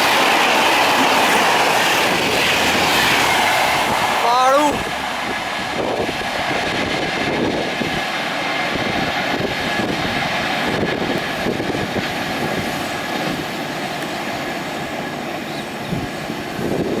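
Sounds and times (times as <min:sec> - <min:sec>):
high-speed train rushing roar: 0:00.0 - 0:17.0.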